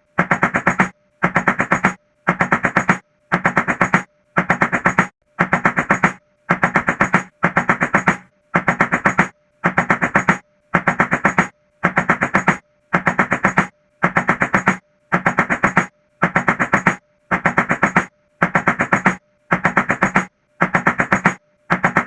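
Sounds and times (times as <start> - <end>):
rapid knocking on a door: 0.2 - 22.0.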